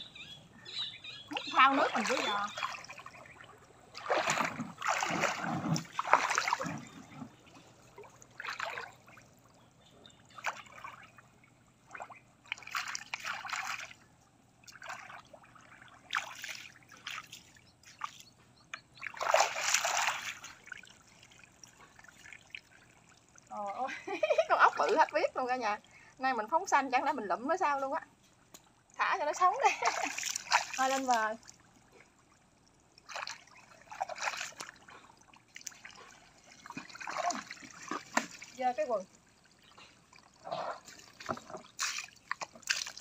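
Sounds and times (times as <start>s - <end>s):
river water splashing: 1.2s - 18.3s, 18.9s - 26.2s, 28.9s - 43.0s.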